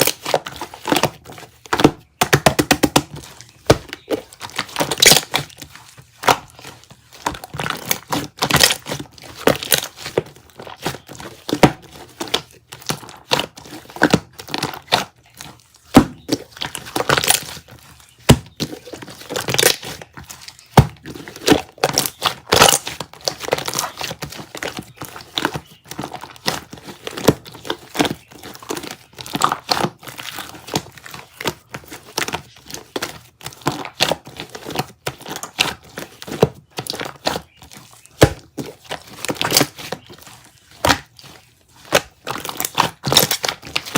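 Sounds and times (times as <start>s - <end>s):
slime crackling and popping: 0.0s - 43.9s.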